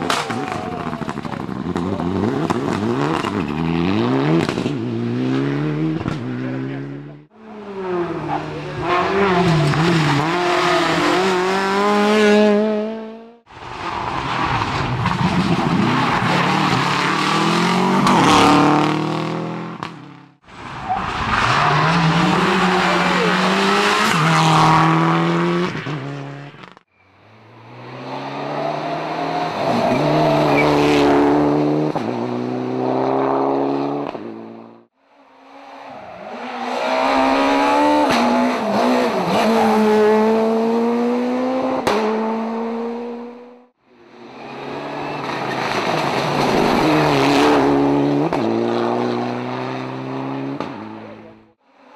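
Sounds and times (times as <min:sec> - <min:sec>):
rally car engines revving: 0:00.0 - 0:51.9.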